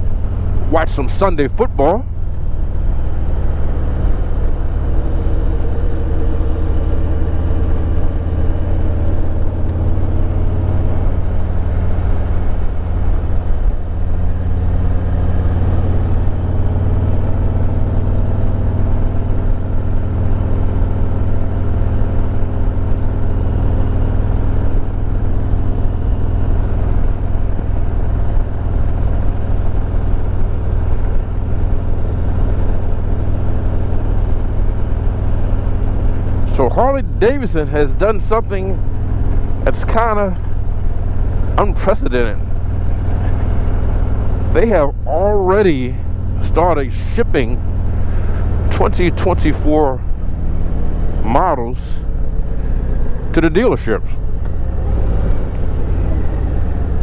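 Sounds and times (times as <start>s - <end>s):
motorcycle engine rumbling: 0.0s - 57.0s
road noise: 0.0s - 57.0s.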